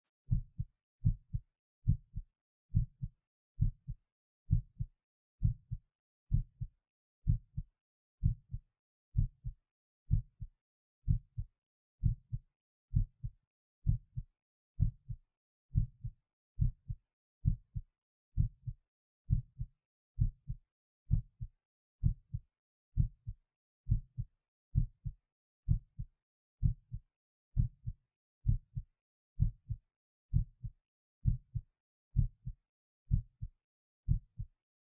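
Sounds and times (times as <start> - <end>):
heartbeat: 0.3 - 8.6, 9.2 - 14.2, 14.8 - 17.8, 18.4 - 22.4, 23.0 - 27.0, 27.6 - 28.8, 29.4 - 31.6, 32.2 - 34.5.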